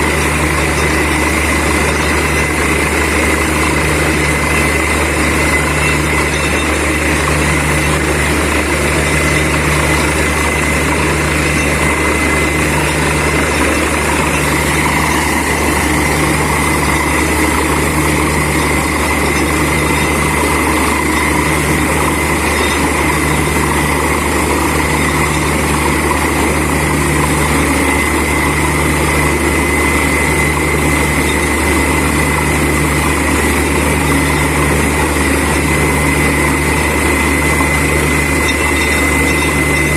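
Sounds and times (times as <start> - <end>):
drilling rig engine drone: 0.0 - 39.9
high whine: 0.0 - 39.9.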